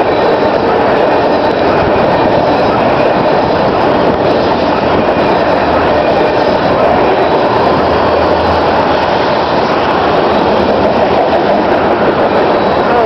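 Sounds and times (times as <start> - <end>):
freight train wheels on rail: 0.0 - 13.0.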